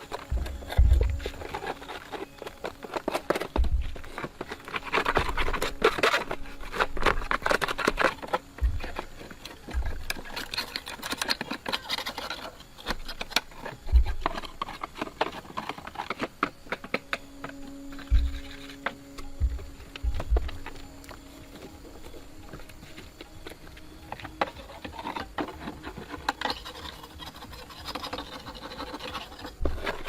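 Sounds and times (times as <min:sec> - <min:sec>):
clicks and scraping on metal: 0:00.0 - 0:30.0.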